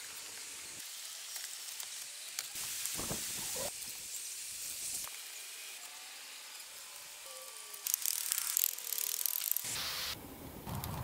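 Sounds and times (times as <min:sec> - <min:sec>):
faint hiss: 0:00.0 - 0:10.6.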